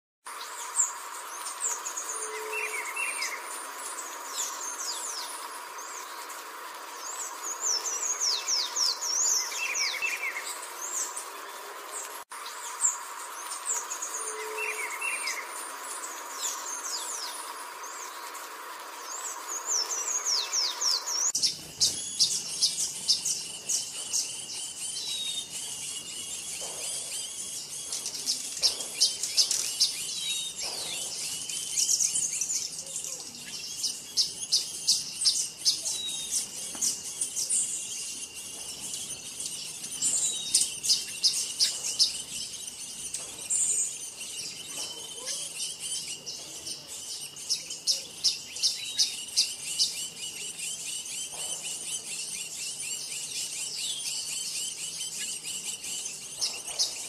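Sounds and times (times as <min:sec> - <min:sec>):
songbird chirping and twittering: 0:00.3 - 0:57.0.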